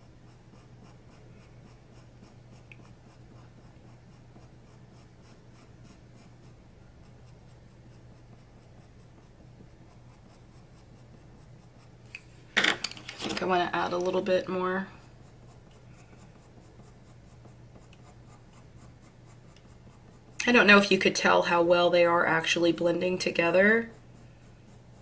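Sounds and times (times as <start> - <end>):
pencil scratching on paper: 0.0 - 12.1, 13.2 - 25.0.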